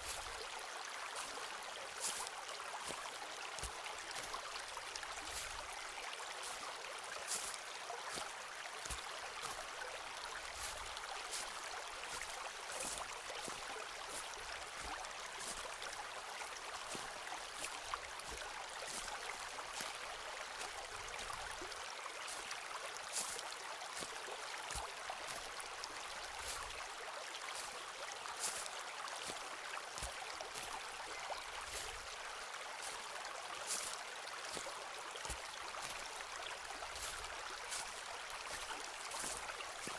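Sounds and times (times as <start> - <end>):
footsteps crunching on path: 0.0 - 0.5, 1.1 - 15.9, 16.8 - 26.8, 27.5 - 32.2, 32.8 - 39.9.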